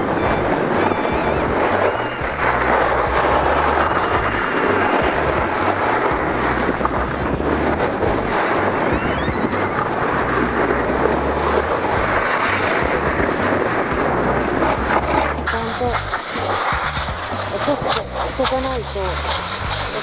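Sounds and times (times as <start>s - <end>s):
snowboards scraping over snow: 0.0s - 20.0s
wind buffeting microphone: 0.0s - 20.0s.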